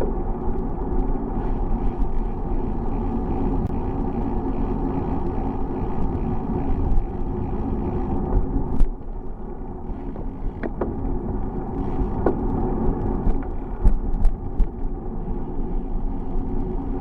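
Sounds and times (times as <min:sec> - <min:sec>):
sharp clicks and rattles: 0:00.0 - 0:15.1
bicycle tyres on road: 0:00.0 - 0:17.0
wind on microphone: 0:00.0 - 0:17.0.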